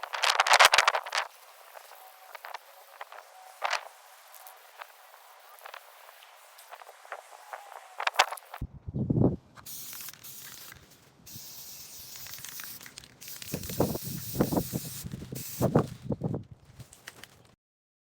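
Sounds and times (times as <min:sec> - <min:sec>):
aerosol spray can hissing: 0:00.0 - 0:08.6, 0:09.6 - 0:16.0.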